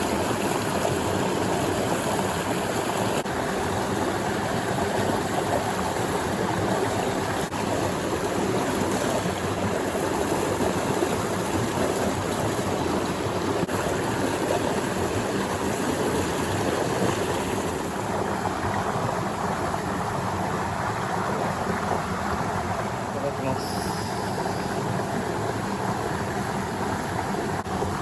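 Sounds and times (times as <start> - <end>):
mountain stream water rushing: 0.0 - 28.0.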